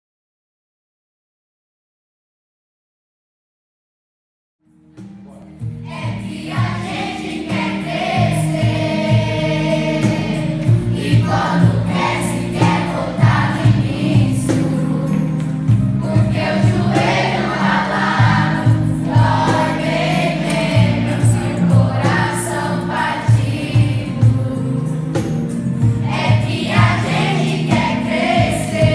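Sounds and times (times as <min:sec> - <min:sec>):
instrumental accompaniment: 0:04.6 - 0:28.9
choir singing with vibrato: 0:05.7 - 0:28.9.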